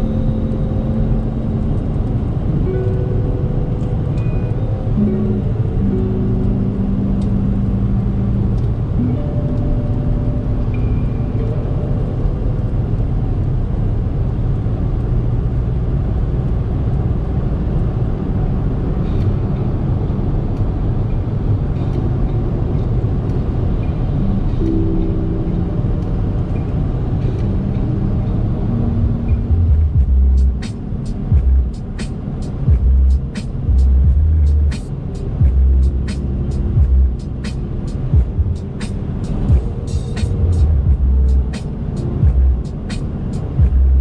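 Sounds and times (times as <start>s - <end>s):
pickup engine and road rumble: 0.0s - 44.0s.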